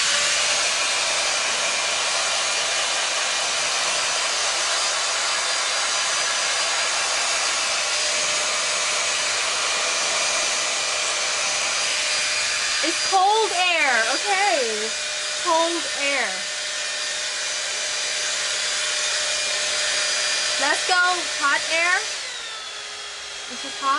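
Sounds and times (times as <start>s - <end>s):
hair dryer air rushing: 0.0s - 23.9s
thin motor whine: 0.0s - 23.9s.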